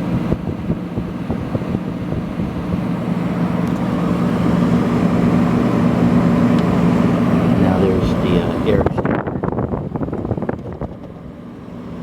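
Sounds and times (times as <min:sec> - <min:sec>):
window air conditioner humming: 0:00.0 - 0:12.0.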